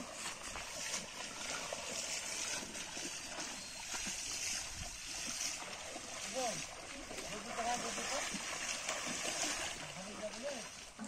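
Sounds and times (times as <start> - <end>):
fishing net dragged through water: 0.0 - 11.0
pond water splashing: 0.0 - 11.0.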